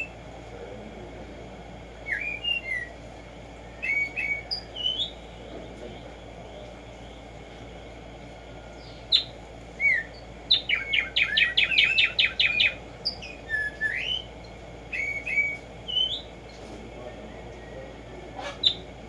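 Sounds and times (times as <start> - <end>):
sparrow singing: 0.0 - 0.3, 1.8 - 19.0.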